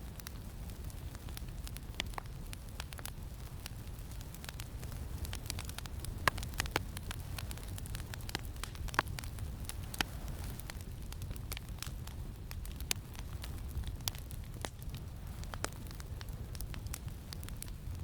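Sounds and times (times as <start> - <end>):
campfire crackling: 0.0 - 18.0
low wind rumble: 0.0 - 18.0.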